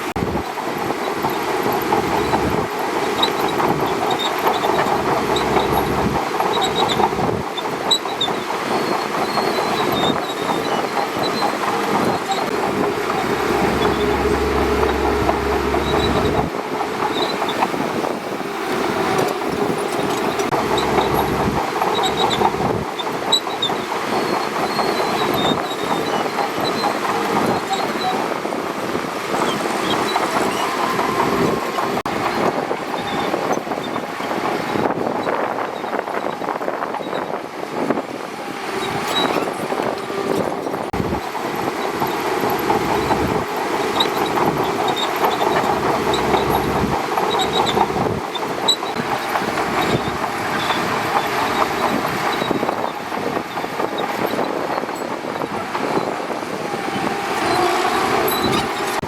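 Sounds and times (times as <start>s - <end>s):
diesel engine running: 0.0s - 35.0s, 37.8s - 59.0s
steel tracks clattering: 0.0s - 59.0s.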